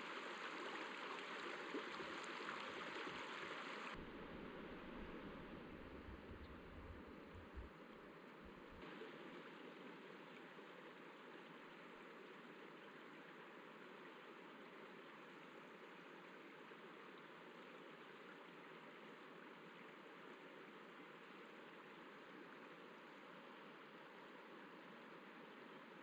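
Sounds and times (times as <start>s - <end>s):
river water over rocks: 0.0s - 26.0s.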